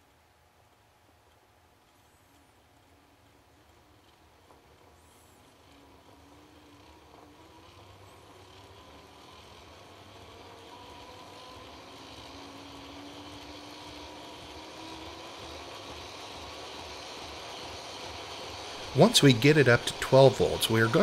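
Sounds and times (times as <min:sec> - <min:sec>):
faint rising whine: 0:00.0 - 0:21.0
model locomotive motor running: 0:01.7 - 0:21.0.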